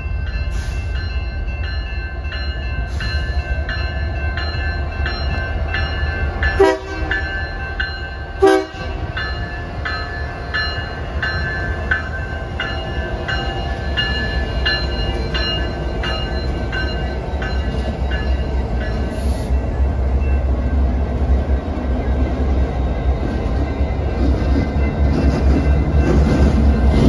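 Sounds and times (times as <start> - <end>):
diesel locomotives rumbling past: 0.0 - 27.0
locomotive bell ringing: 0.0 - 27.0.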